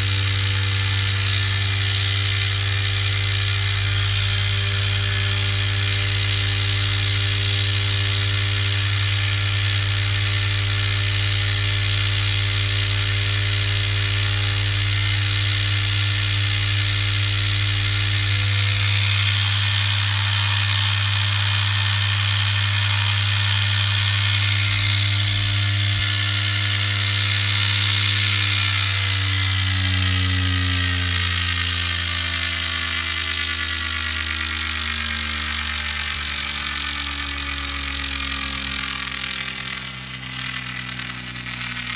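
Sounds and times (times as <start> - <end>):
motor rotor buzzing whir: 0.0 - 41.9.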